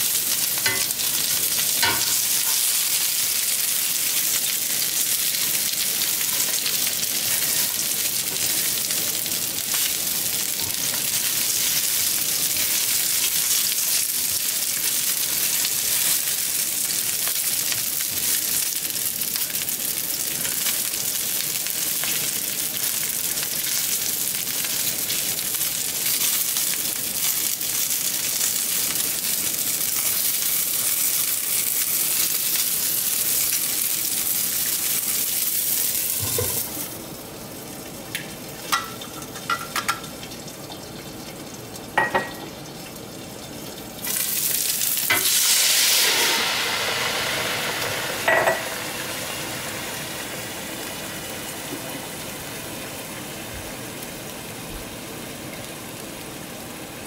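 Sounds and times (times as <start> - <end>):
dumplings sizzling in oil: 0.0 - 57.0.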